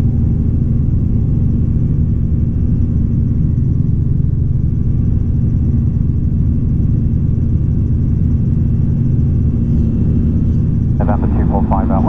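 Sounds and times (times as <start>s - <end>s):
helicopter drone from cabin: 0.0s - 12.0s.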